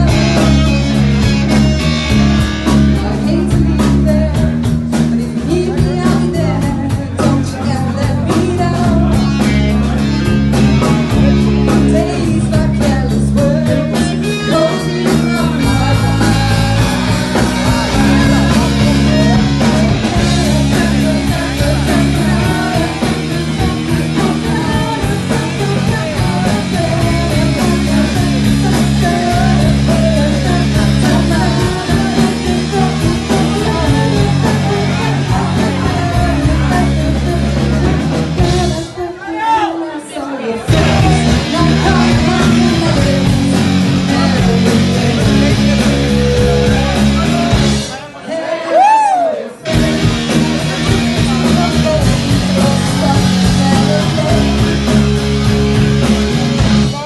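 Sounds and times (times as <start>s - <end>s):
woman singing into a microphone: 0.0s - 1.0s, 1.6s - 9.9s, 10.7s - 47.0s, 49.6s - 55.0s
drum kit: 0.0s - 39.1s, 40.7s - 48.0s, 48.8s - 57.0s
electric guitar: 0.0s - 39.2s, 40.6s - 48.0s, 48.7s - 57.0s
bass: 0.0s - 39.6s, 40.6s - 57.0s.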